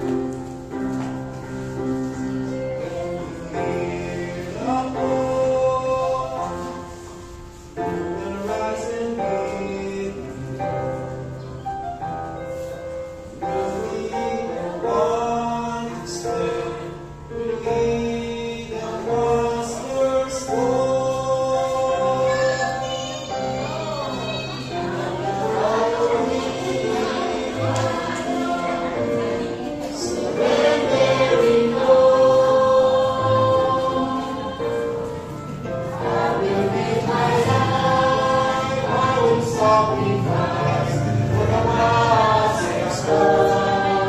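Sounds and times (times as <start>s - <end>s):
choir singing a hymn: 0.0s - 44.0s
instrumental accompaniment: 0.0s - 44.0s.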